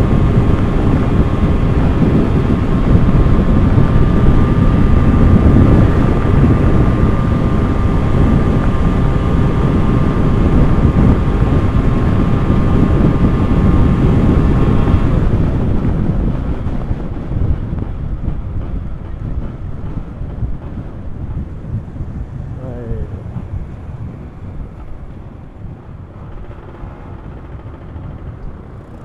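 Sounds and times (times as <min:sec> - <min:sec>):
motorcycle engine humming: 0:00.0 - 0:29.0
wind buffeting microphone: 0:00.0 - 0:29.0.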